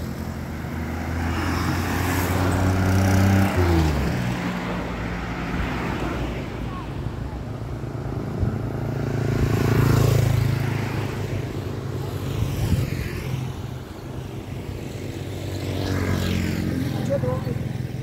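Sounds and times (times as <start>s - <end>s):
vehicles passing on road: 0.0s - 18.0s.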